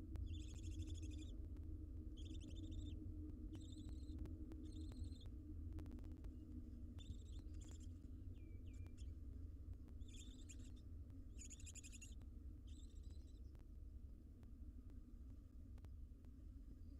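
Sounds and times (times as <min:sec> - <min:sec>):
steady low hum: 0:00.0 - 0:16.9
faint scattered ticks: 0:00.1 - 0:16.9.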